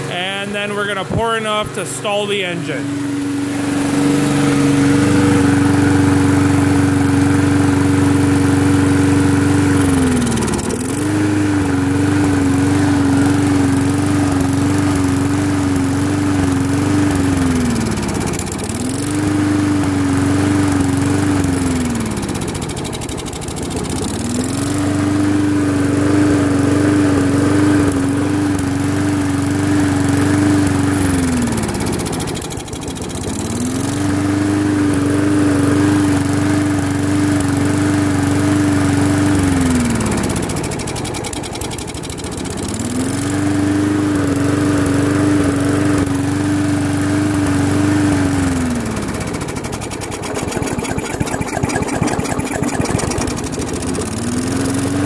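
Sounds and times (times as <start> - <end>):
mower engine bogging down: 0.0 - 55.0.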